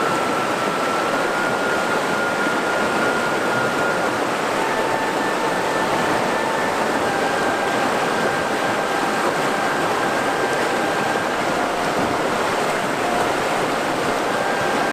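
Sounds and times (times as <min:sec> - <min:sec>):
river rushing over rocks: 0:00.0 - 0:14.9.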